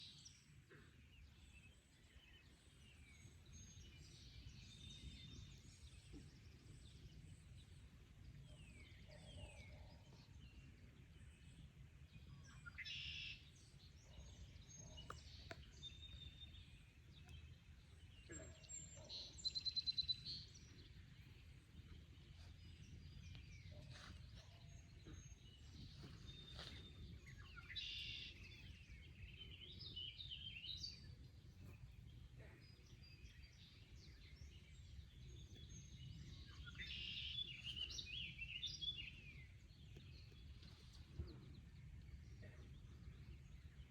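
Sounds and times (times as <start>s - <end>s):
birds singing and chirping: 0.0s - 43.9s.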